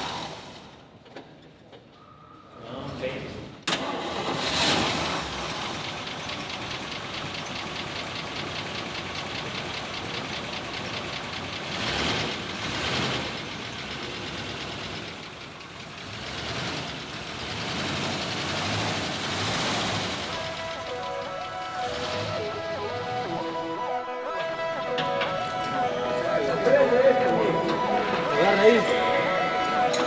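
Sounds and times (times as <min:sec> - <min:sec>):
bus engine idling: 0:03.6 - 0:30.0.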